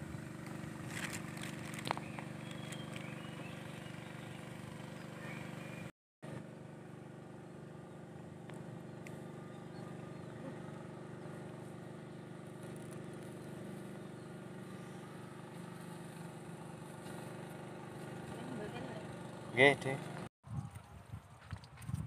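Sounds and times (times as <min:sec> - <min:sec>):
distant engine humming: 0:00.0 - 0:20.3.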